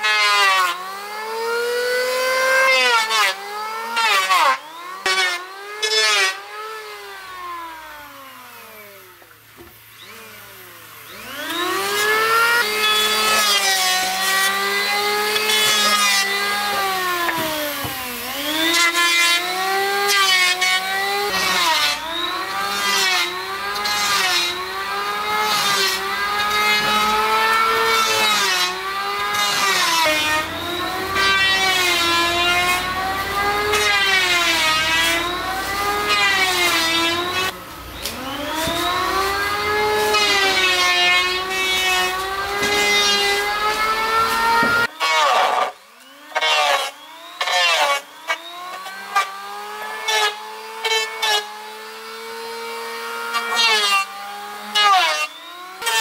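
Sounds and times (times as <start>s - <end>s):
power tool cutting wood: 0.0s - 56.0s.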